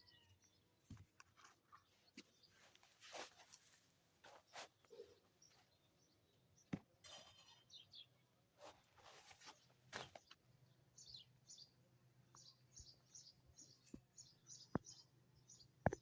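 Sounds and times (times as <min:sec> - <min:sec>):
small bird chirping: 0:00.0 - 0:08.3, 0:09.4 - 0:16.0.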